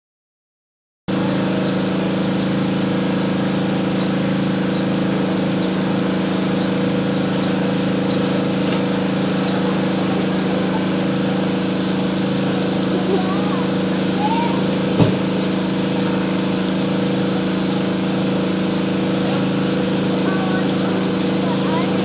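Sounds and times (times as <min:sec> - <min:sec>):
steady mechanical hum: 0:01.1 - 0:22.0.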